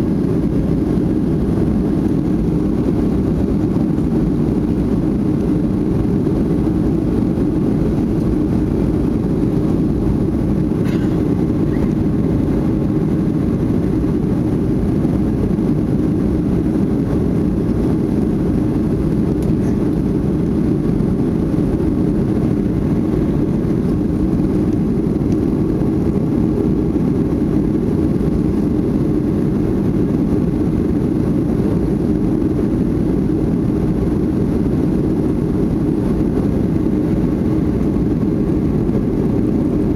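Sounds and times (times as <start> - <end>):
jet engine rumble inside cabin: 0.0 - 39.9.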